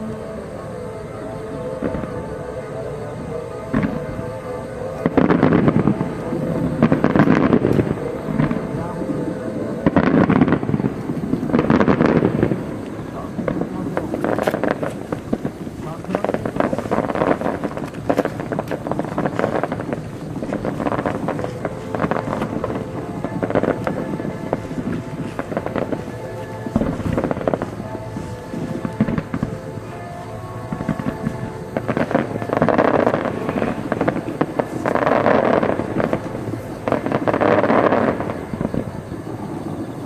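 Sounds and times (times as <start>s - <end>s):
fireworks crackling: 0.0s - 40.0s
wind buffeting microphone: 3.1s - 40.0s.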